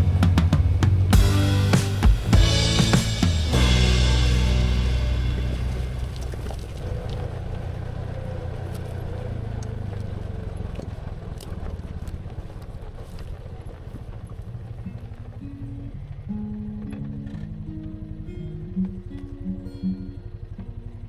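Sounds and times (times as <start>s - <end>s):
utility vehicle engine running: 0.0s - 19.2s.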